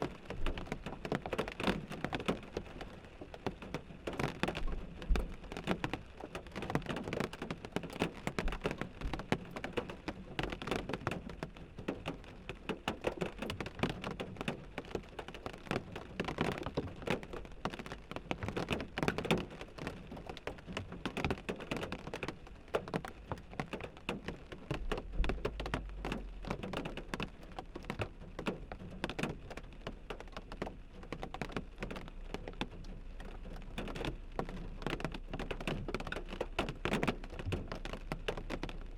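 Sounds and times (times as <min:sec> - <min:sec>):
rain on car windshield: 0:00.0 - 0:38.9.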